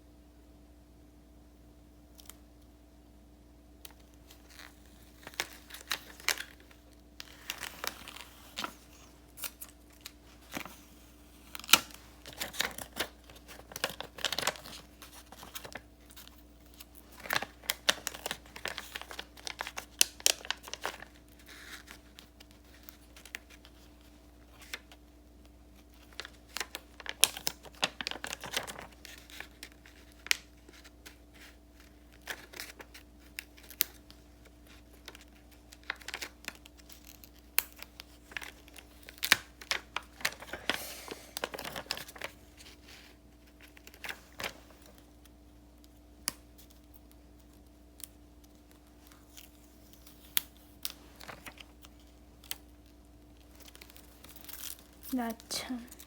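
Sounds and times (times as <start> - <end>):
faint steady hum: 0.0 - 56.0
paper crinkling and rustling: 3.9 - 56.0.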